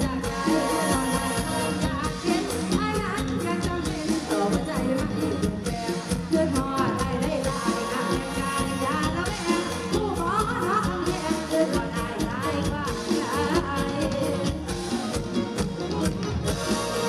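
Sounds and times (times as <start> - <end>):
band music with singing: 0.0 - 17.0
steady drum beat: 0.0 - 17.0.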